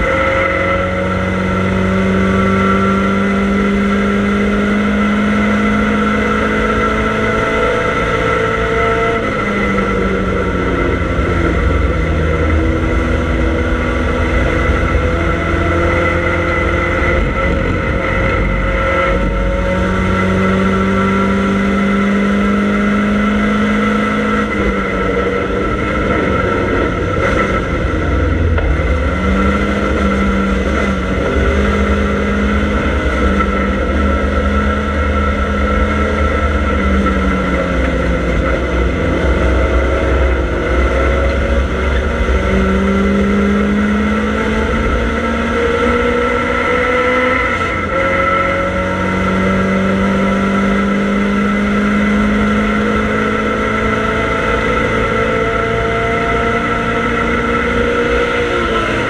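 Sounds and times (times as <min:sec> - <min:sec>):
racing car engine at speed: 0:00.0 - 0:59.0.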